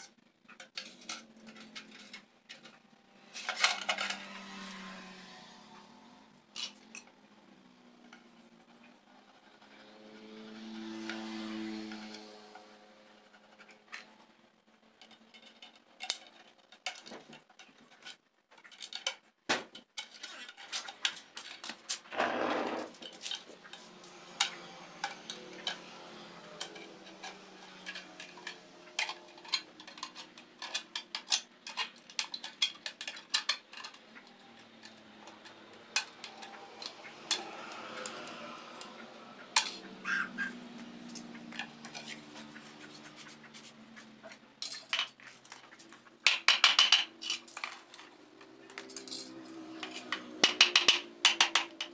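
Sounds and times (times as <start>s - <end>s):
metal scraping on concrete: 0.0s - 51.9s.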